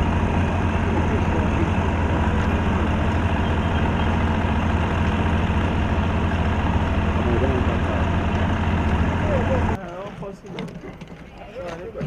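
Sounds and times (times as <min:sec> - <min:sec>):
heavy engines idling: 0:00.0 - 0:10.4.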